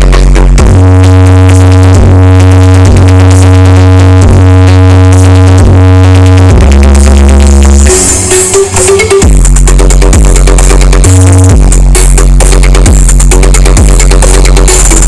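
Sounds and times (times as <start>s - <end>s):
loud electronic dance music: 0.0s - 15.0s.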